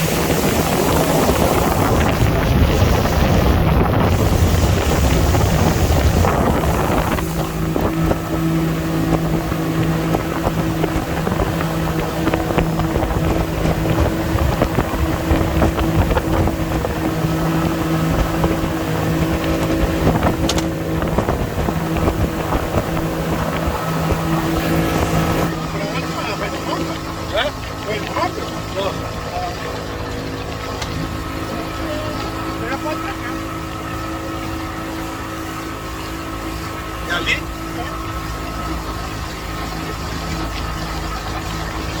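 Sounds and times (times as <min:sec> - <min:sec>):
motorboat engine running: 0:00.0 - 0:42.0
wind buffeting microphone: 0:00.0 - 0:42.0.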